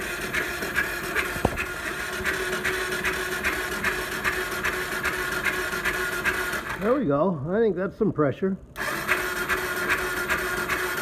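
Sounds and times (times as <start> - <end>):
engine cranking on starter: 0.0 - 7.1, 8.7 - 11.0.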